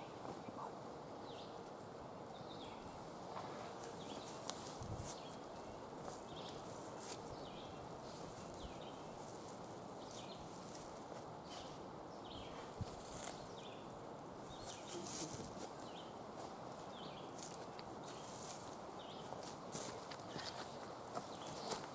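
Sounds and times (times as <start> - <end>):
steady low hiss: 0.0 - 21.9.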